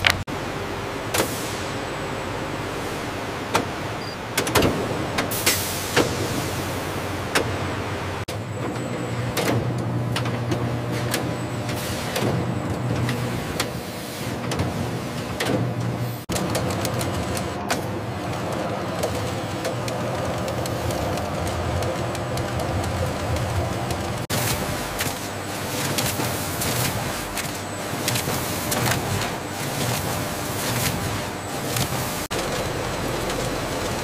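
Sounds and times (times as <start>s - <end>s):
factory machinery humming: 0.0s - 34.0s.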